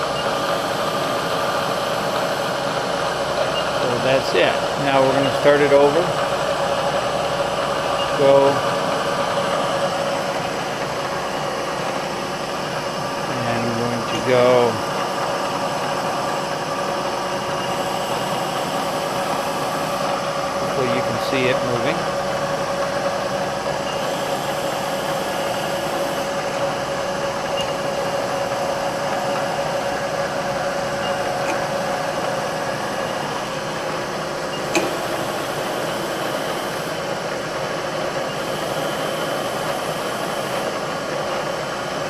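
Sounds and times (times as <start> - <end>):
milling machine humming: 0.0 - 42.0.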